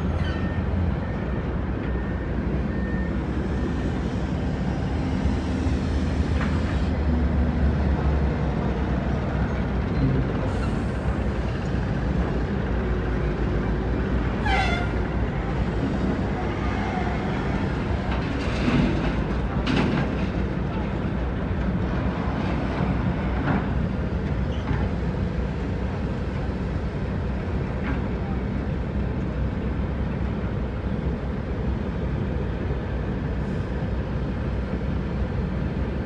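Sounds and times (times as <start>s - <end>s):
heavy diesel machinery rumbling: 0.0s - 36.0s.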